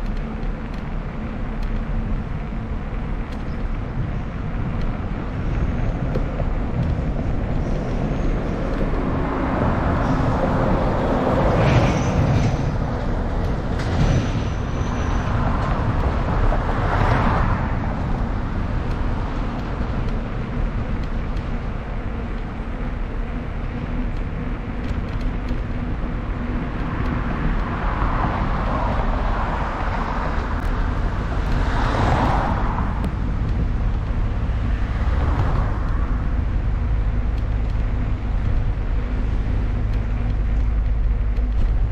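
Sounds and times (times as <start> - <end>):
steady low road rumble: 0.0 - 41.9
cars passing: 1.1 - 41.9.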